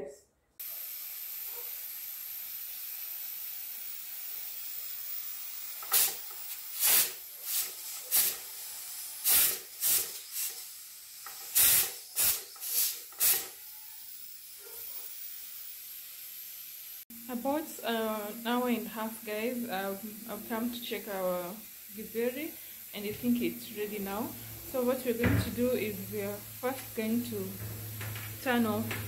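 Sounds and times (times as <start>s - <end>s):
pressure cooker hissing: 0.6s - 29.0s
steam spurts from valve: 0.6s - 29.0s.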